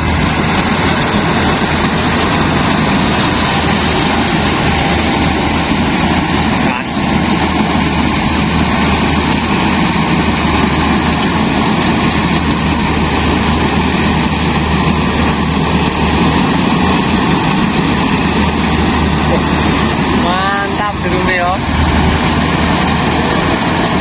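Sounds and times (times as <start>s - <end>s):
combine harvester engine running: 0.0s - 24.0s
machinery whirr: 0.0s - 24.0s.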